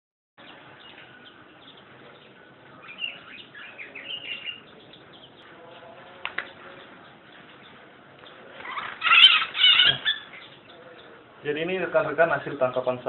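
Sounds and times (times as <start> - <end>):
small songbirds chirping: 0.4 - 13.0.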